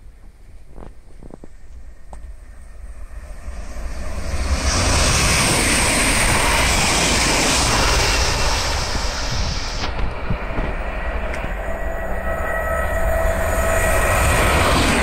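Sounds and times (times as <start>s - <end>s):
train passing with rushing roar: 0.0s - 15.0s
wind buffeting microphone: 0.1s - 2.4s, 3.4s - 15.0s.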